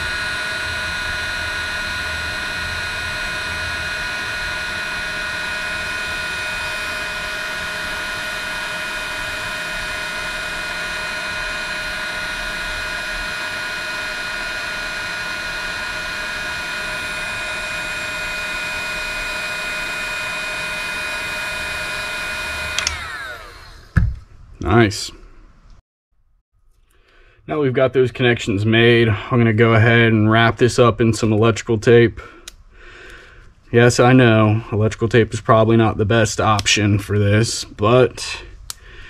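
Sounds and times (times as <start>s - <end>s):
heat gun fan whining: 0.0s - 25.1s, 27.5s - 39.0s.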